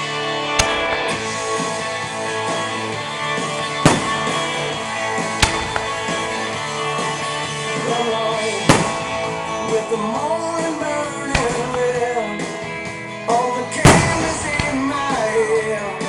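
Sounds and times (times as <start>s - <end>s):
rock music with singing: 0.0s - 16.0s
firework bangs: 0.3s - 12.8s, 13.7s - 16.0s.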